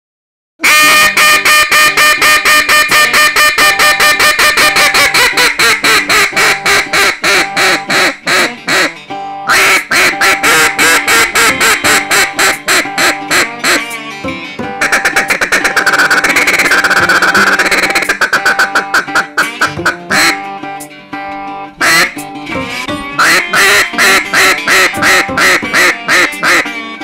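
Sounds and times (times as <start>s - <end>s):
duck call quacking: 0.6s - 14.0s, 14.8s - 20.4s, 21.8s - 22.2s, 23.2s - 27.0s.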